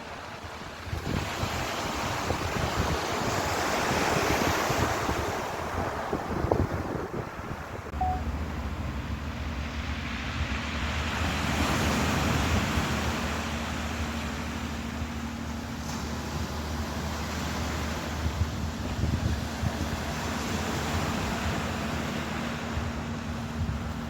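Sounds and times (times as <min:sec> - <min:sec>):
low engine-like hum: 0:00.0 - 0:24.0
ocean waves washing in: 0:00.0 - 0:24.0.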